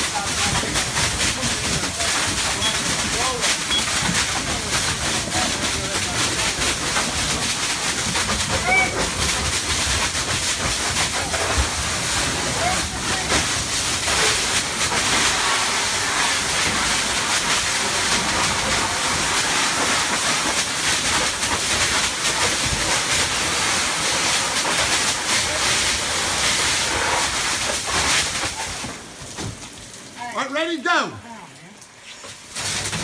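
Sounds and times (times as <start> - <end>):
water stream hitting ceiling: 0.0 - 33.0.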